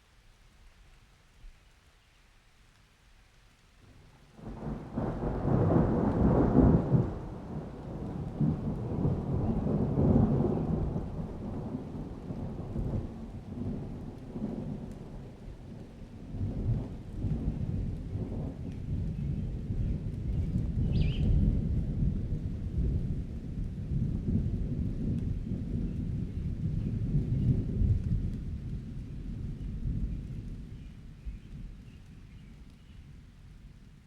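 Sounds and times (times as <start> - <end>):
thunder rumbling: 4.4 - 31.8.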